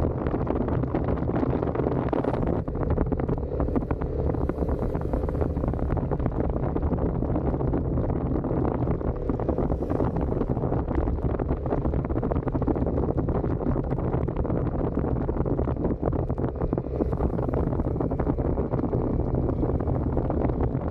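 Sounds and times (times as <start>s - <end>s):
motorcycle engine cruising: 0.0s - 20.9s
wind buffeting microphone: 0.0s - 20.9s.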